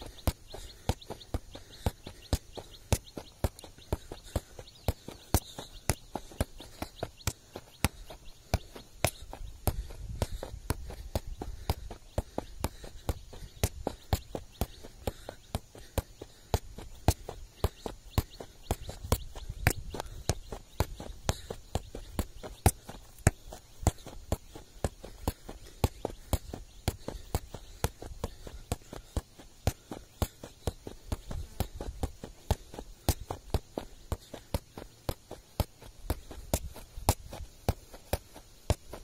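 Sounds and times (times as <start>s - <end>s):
foot kicking football: 0.0s - 39.0s.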